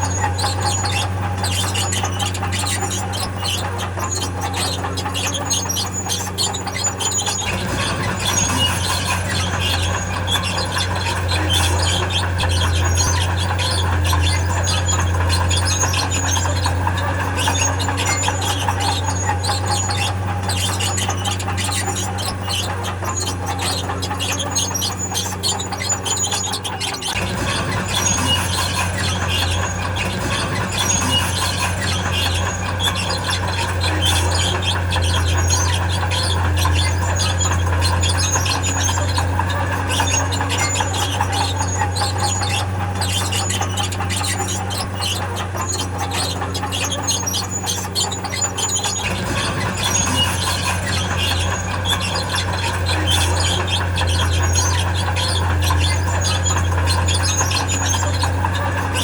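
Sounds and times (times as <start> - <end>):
crawler tracks squealing and clanking: 0.0 - 59.0
diesel engine running: 0.0 - 59.0.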